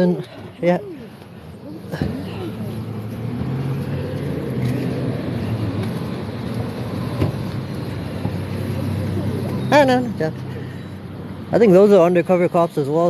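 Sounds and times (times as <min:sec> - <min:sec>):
vehicle engine running: 0:01.0 - 0:12.2.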